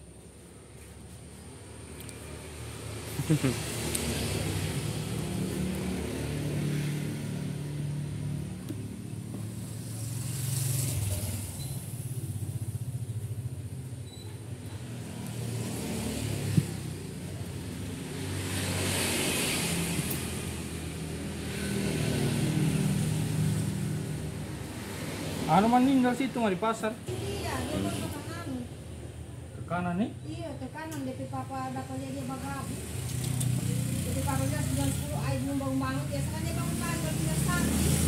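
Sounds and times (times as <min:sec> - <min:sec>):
passing traffic: 0:00.0 - 0:38.0.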